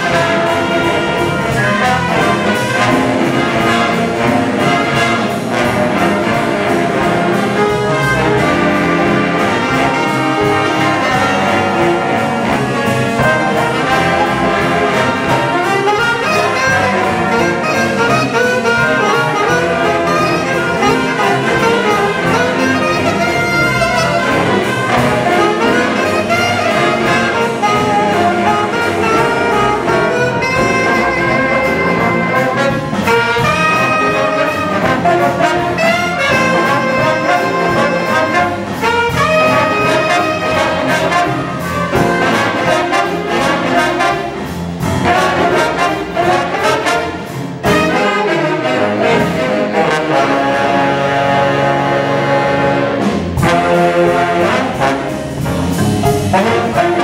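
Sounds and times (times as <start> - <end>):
jazz big band playing: 0.0 - 57.0.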